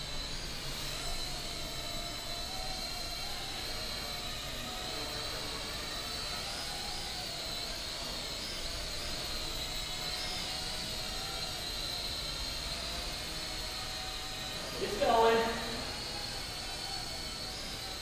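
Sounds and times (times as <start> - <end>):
toy drone whining: 0.0 - 18.0.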